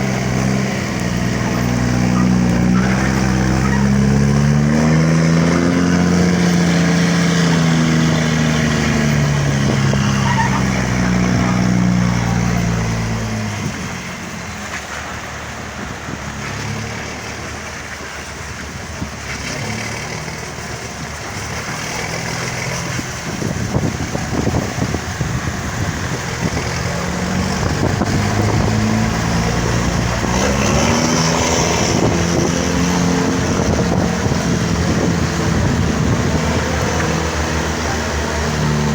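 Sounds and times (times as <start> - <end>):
bus diesel engine roaring: 0.0 - 38.9.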